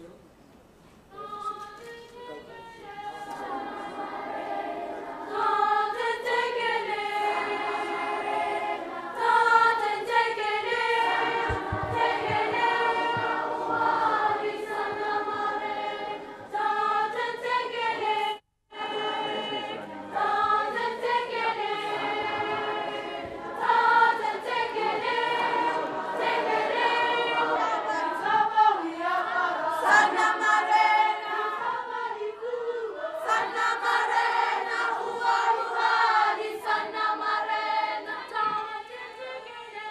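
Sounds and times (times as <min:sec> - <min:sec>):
choir singing: 0:01.2 - 0:39.9.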